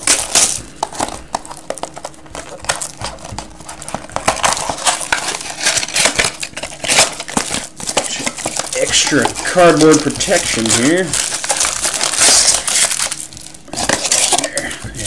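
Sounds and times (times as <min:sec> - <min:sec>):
cardboard rustling: 0:00.0 - 0:15.0
plastic wrap crinkling: 0:00.0 - 0:15.0.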